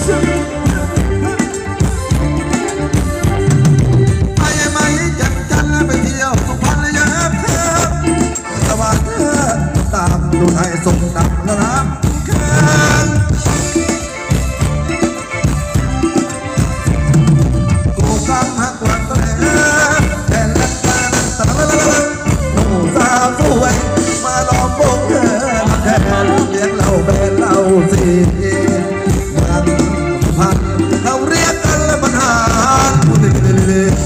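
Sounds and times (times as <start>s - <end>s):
live band dance music: 0.0s - 34.0s.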